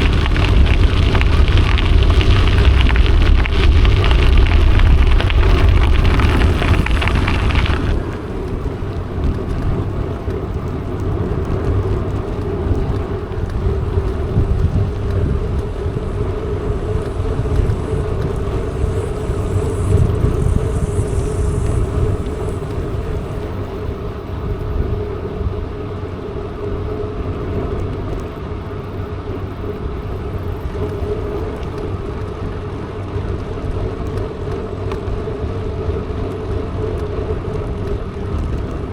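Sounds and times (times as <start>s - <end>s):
constant low hum: 0.0s - 38.9s
mountain bike rolling: 0.0s - 38.9s
wind rushing over microphone: 0.0s - 38.9s.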